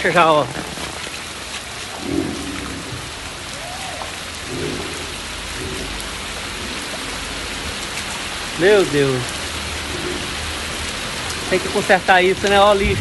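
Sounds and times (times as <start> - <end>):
heavy rain on street: 0.0 - 13.0.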